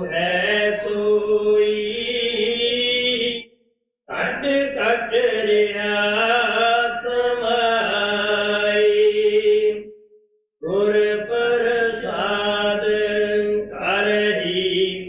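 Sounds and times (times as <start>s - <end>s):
devotional chanting: 0.0s - 10.0s, 10.6s - 15.0s.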